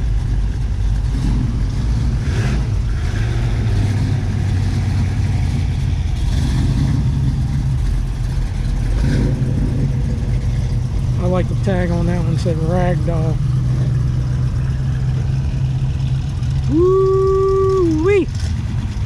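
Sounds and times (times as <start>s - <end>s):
car engines driving past: 0.0s - 19.0s.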